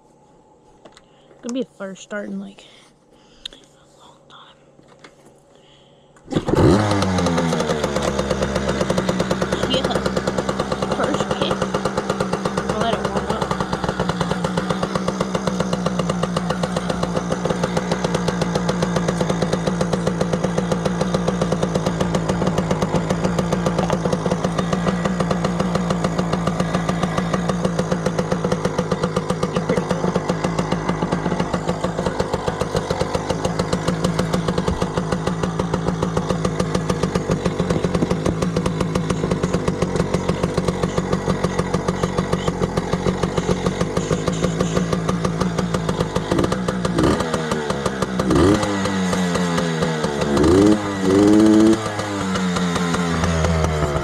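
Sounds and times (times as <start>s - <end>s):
two-stroke engine idling: 6.4s - 54.0s.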